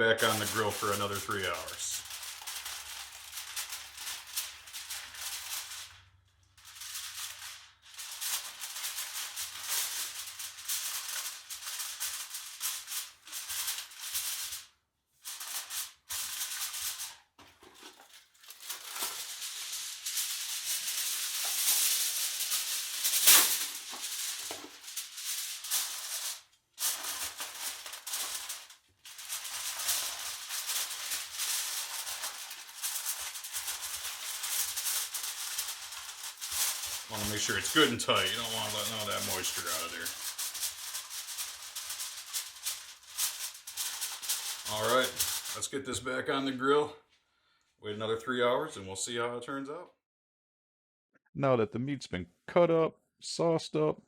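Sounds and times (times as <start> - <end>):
aluminium foil crinkling: 0.0 - 46.0.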